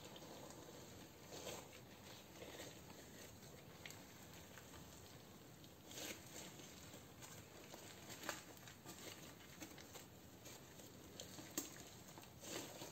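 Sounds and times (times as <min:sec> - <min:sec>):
sticky slime crackling: 0:00.0 - 0:12.9.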